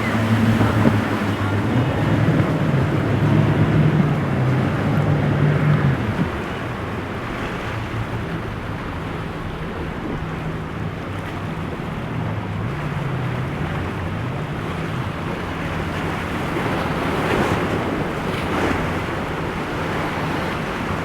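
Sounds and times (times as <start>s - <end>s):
boat engine running: 0.0s - 21.0s
surf rushing: 0.0s - 21.0s
waves breaking: 0.0s - 21.0s
wind noise on microphone: 0.0s - 21.0s.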